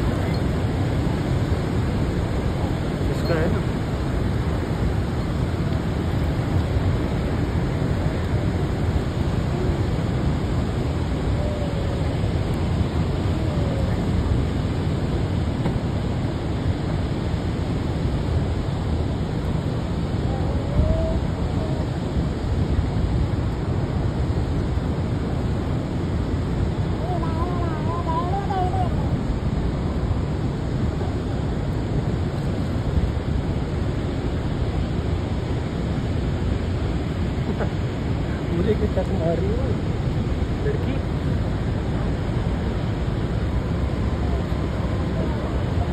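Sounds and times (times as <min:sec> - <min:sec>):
river churning: 0:00.0 - 0:45.9
waterfall rushing: 0:00.0 - 0:45.9
wind buffeting microphone: 0:00.0 - 0:45.9.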